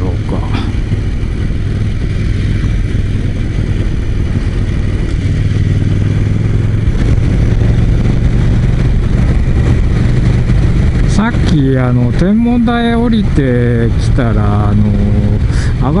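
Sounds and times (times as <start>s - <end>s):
motorcycle engine running: 0.0s - 16.0s
road noise: 0.0s - 16.0s
wind noise: 0.0s - 16.0s.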